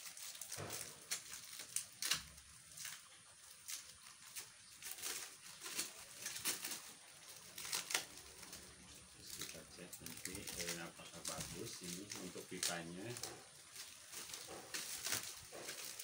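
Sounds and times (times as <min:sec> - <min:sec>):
packaging rustling: 0:00.0 - 0:16.0.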